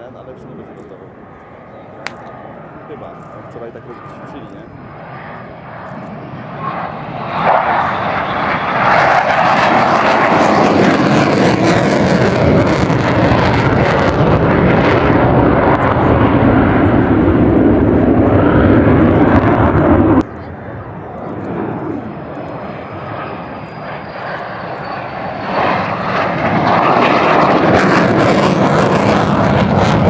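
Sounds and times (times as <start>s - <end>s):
jet engine passing low: 0.0s - 30.0s.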